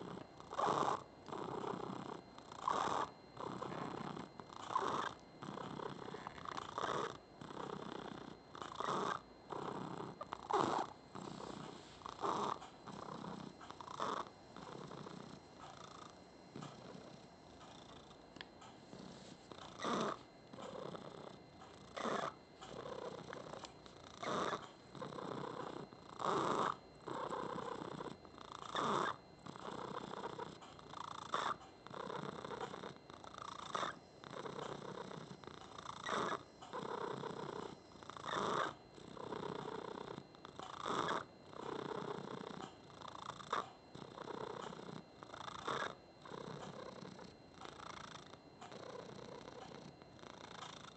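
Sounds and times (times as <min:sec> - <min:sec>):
cat purring with squeaky note: 0:00.0 - 0:50.9.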